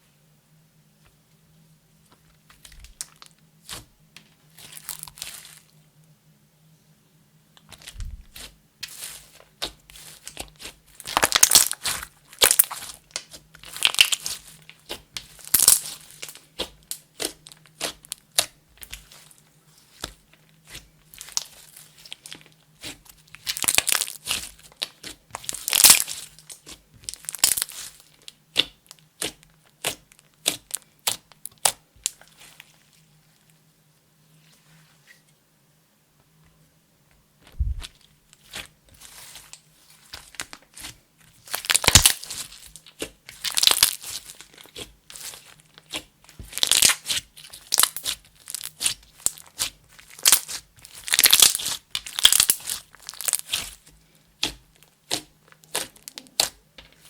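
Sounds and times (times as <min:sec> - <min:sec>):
slime squishing and crackling: 0:02.4 - 0:03.9, 0:04.5 - 0:05.8, 0:07.6 - 0:33.5, 0:37.5 - 0:57.0.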